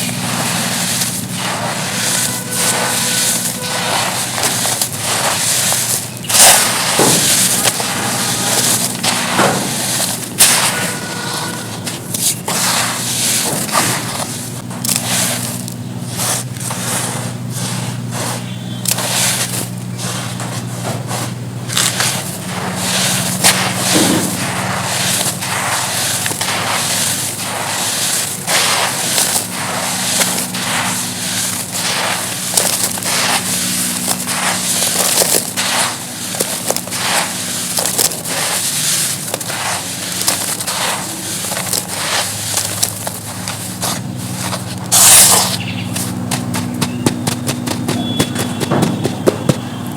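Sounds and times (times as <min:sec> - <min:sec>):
charcoal being crushed by hand: 0:00.0 - 0:49.9.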